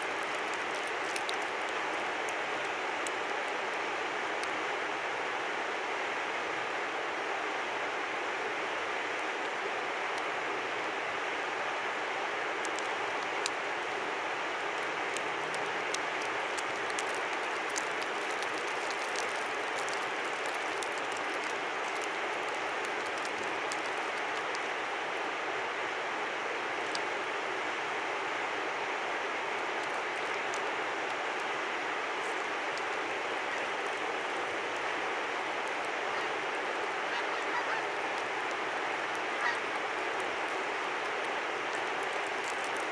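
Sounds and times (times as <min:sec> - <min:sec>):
river rushing: 0:00.0 - 0:42.9.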